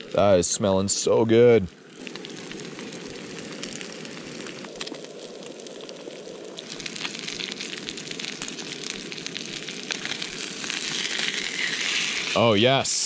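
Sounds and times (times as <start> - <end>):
fish and onion frying: 0.0 - 13.0.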